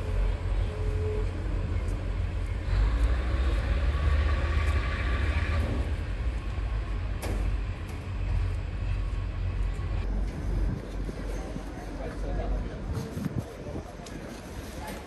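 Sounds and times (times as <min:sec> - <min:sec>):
diesel railcar rumble: 0:00.0 - 0:15.0.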